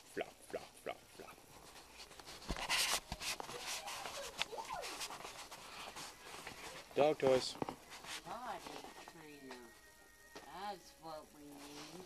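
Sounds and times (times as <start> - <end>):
rustling and handling noise: 0.4 - 10.6, 11.4 - 12.0.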